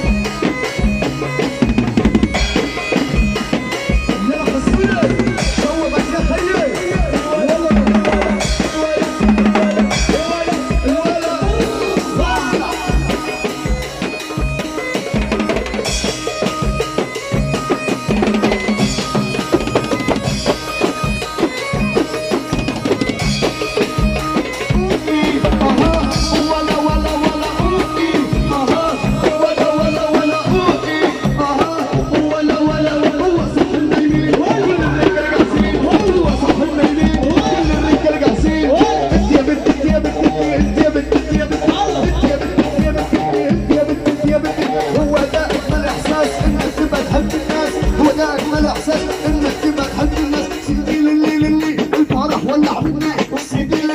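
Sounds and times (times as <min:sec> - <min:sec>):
drum kit beat: 0:00.0 - 0:53.9
ornamented lead melody: 0:00.0 - 0:53.9.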